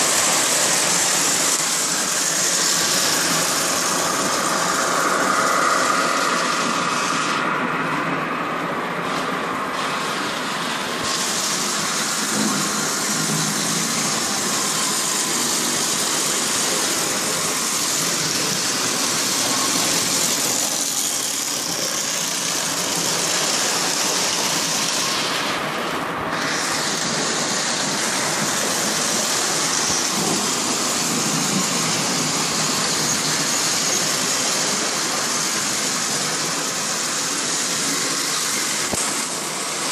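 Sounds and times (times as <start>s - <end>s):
electric motors running: 0.0s - 7.4s, 9.1s - 39.9s
model train wheels rolling on track: 0.0s - 39.9s.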